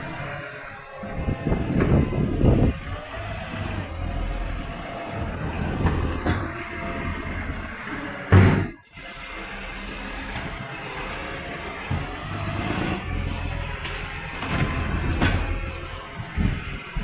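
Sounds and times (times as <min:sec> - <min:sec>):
garbage truck engine rumbling: 0:00.0 - 0:17.0.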